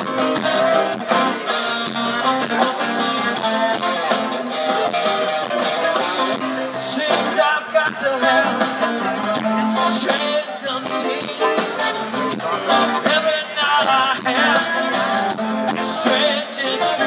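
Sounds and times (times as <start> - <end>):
rock band playing: 0.0 - 17.0
man singing: 2.0 - 17.0.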